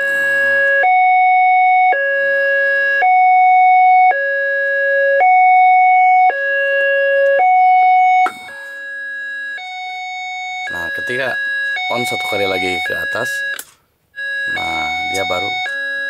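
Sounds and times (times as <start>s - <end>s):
level crossing warning tones: 0.0s - 13.6s, 14.2s - 16.0s.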